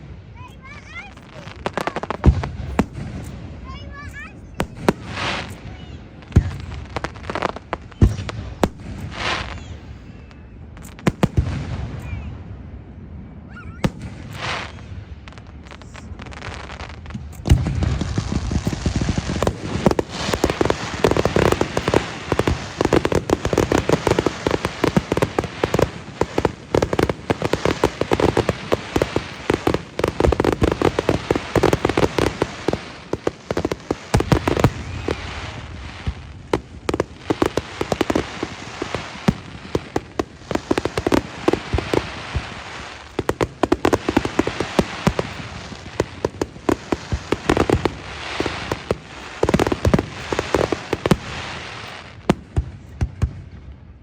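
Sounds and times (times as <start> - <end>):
fireworks crackling and banging: 0.0 - 54.0
low firework booms: 1.1 - 53.8.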